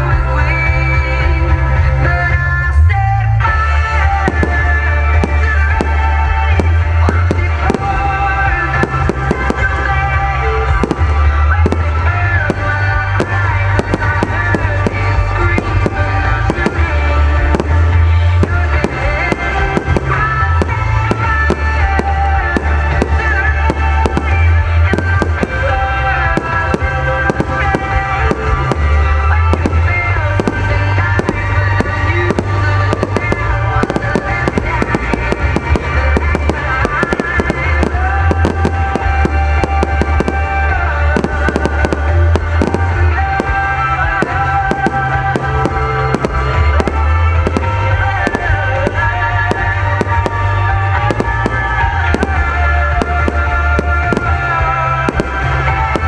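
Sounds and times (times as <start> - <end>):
loud music with heavy bass: 0.0 - 56.0
fireworks bursting and crackling: 3.4 - 56.0.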